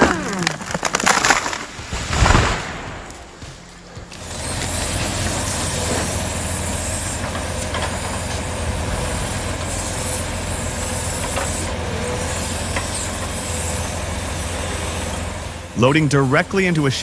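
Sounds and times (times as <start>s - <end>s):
diesel machinery engine hum: 0.0s - 17.0s
high hiss: 0.0s - 17.0s.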